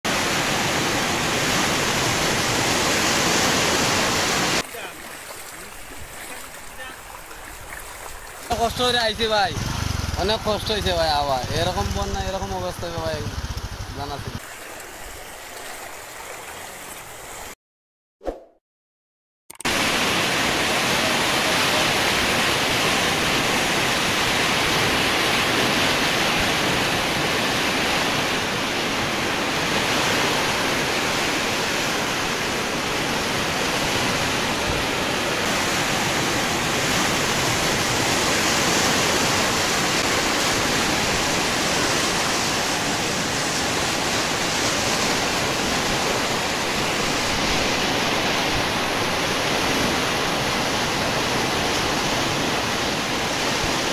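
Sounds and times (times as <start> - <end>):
flood water rushing: 0.1 - 17.6, 19.7 - 53.9.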